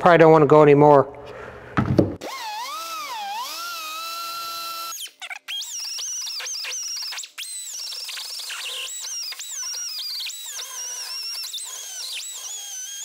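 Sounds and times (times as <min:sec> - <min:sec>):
die grinder cutting steel: 0:02.2 - 0:13.0.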